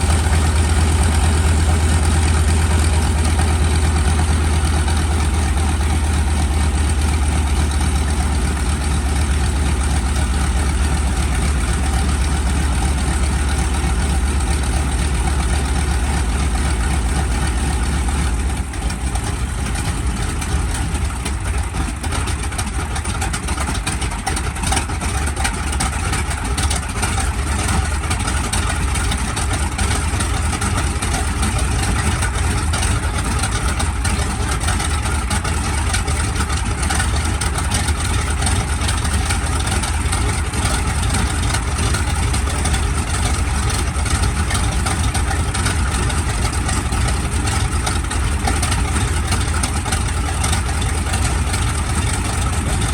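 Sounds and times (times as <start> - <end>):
aircraft radial engine running: 0.0 - 52.9.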